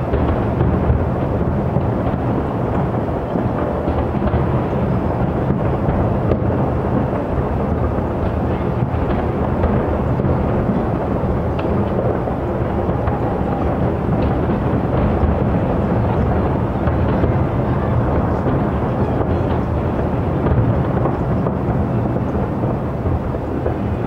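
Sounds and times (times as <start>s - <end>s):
distant fireworks bursting: 0.0s - 24.0s.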